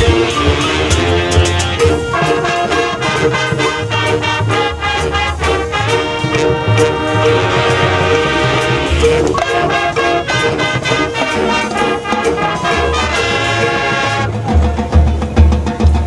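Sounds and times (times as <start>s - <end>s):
brass chords: 0.0s - 16.0s
drums: 0.0s - 16.0s.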